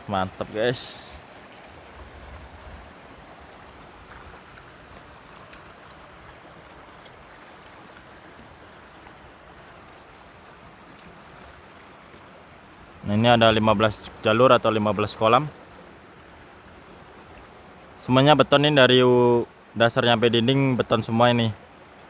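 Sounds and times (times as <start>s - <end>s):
water rushing along a channel: 0.0s - 22.0s.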